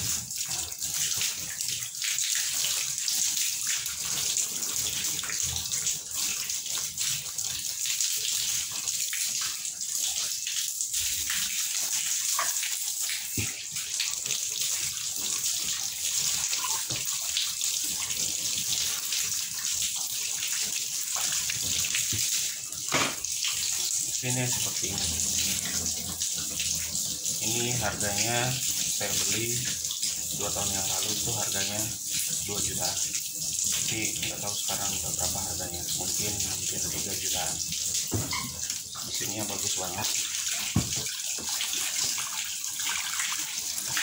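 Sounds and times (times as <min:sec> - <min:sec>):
water running from hose: 0:00.0 - 0:44.0.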